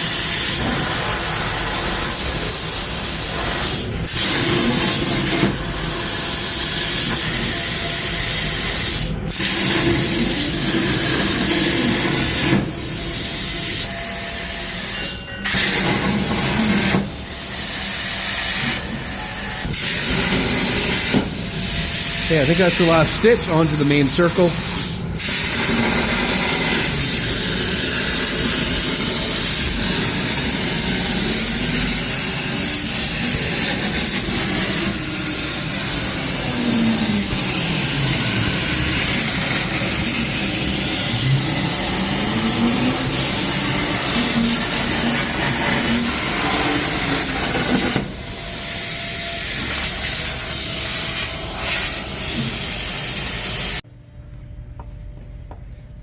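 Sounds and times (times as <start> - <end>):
plasma cutter arc hissing: 0.0 - 13.9, 19.7 - 53.8.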